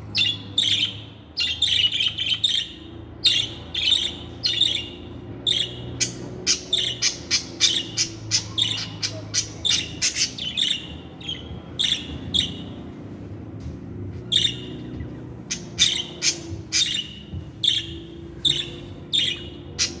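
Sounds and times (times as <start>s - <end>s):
budgerigars chirping: 0.1s - 12.8s, 14.3s - 20.0s.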